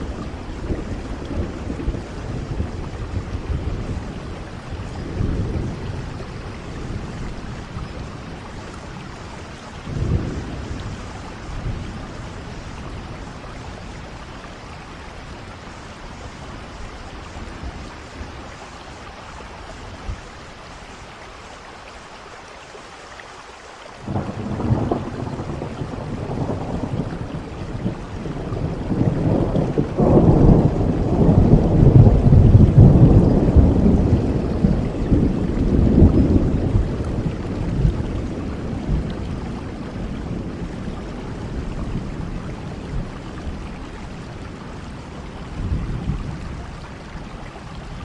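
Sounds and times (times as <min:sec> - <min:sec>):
thunder rumbling: 0:00.0 - 0:18.7, 0:24.0 - 0:48.0
steady rain: 0:00.0 - 0:48.0.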